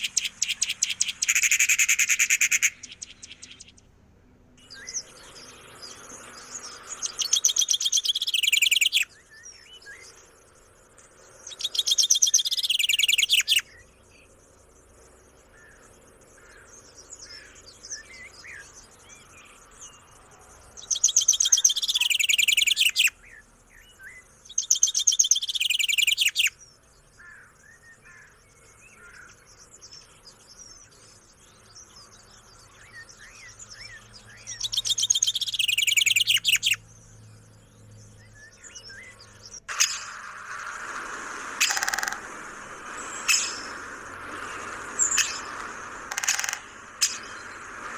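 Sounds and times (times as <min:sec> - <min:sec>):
faint bird chirps: 0:00.0 - 0:03.9, 0:04.6 - 0:40.8.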